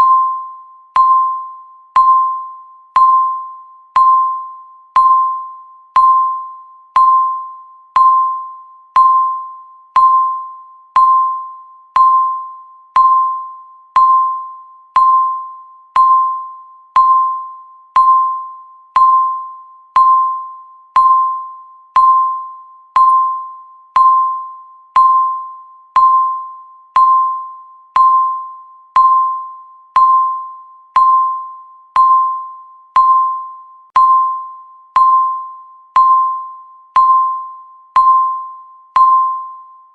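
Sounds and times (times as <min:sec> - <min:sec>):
high electronic timer beeps: 0:00.0 - 0:39.9.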